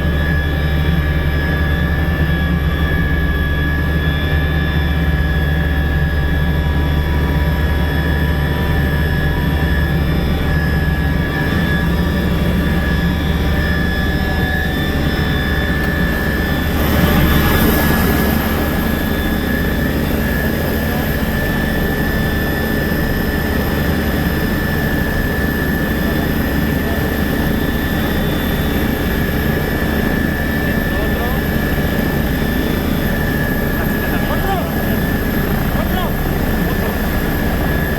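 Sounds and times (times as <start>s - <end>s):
helicopter turbine and rotor: 0.0s - 37.9s.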